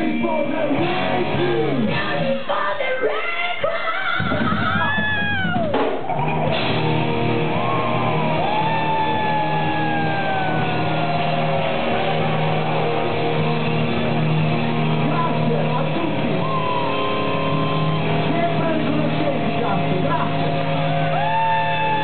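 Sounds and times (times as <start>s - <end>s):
heavy metal band playing live: 0.5s - 2.4s, 4.8s - 22.0s.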